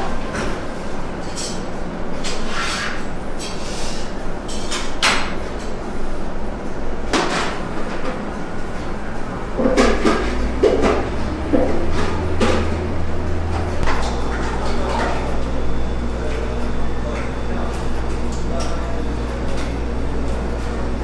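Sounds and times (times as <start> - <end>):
shop room hum: 0.0 - 21.0.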